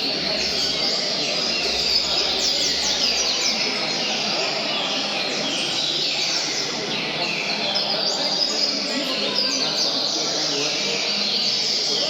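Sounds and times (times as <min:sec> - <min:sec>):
murmur of people talking: 0:00.0 - 0:12.0
small birds singing: 0:00.0 - 0:12.0.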